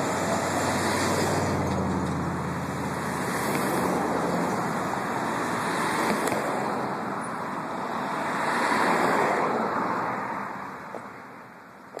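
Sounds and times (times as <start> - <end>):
passing vehicle rushing: 0.0 - 10.6.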